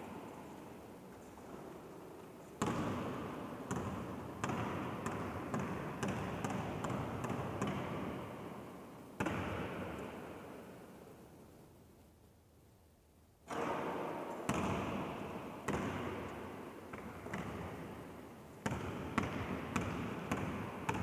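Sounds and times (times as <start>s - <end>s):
basketball bouncing in echoing hall: 0.0s - 11.2s, 13.4s - 21.0s.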